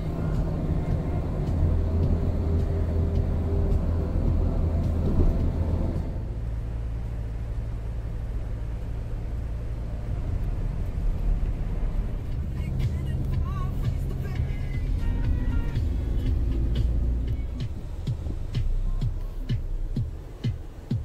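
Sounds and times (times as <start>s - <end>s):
car tyres and engine rumble: 0.0s - 21.0s.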